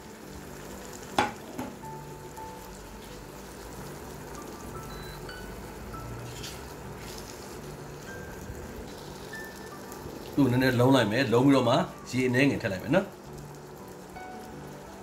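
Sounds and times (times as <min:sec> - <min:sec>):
faint background music: 0:00.0 - 0:15.0
food sizzling in a pan: 0:00.0 - 0:15.0.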